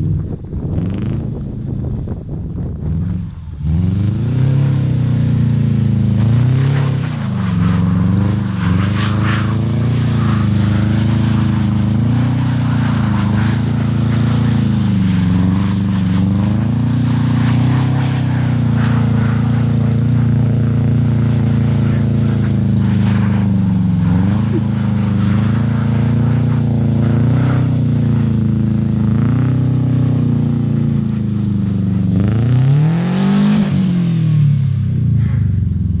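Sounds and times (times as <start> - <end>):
car engine revving: 2.6 - 36.0.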